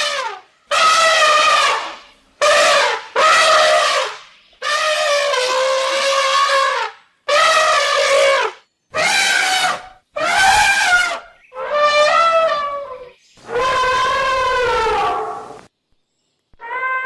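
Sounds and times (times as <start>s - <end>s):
elephant trumpeting: 0.0s - 15.6s.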